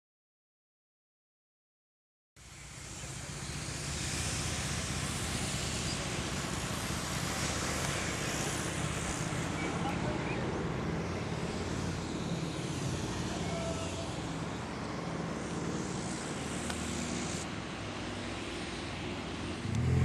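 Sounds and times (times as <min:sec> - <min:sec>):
low hum of distant traffic: 0:02.4 - 0:20.0.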